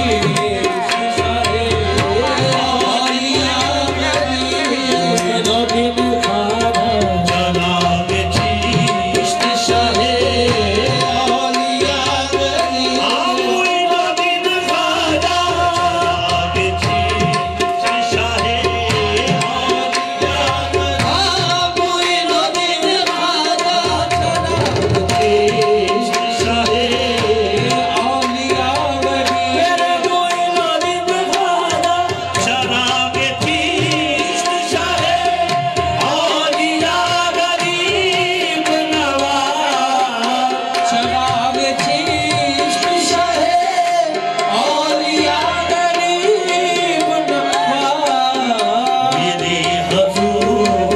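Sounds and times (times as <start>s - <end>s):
group singing: 0.0s - 50.9s
hand drum rhythm: 0.0s - 50.9s
harmonium drone: 0.0s - 50.9s.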